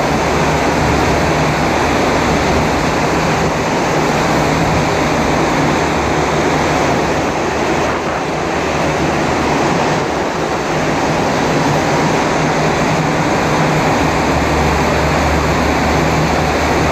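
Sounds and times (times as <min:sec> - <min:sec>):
bus road noise: 0:00.0 - 0:16.9
wind roar: 0:00.0 - 0:16.9.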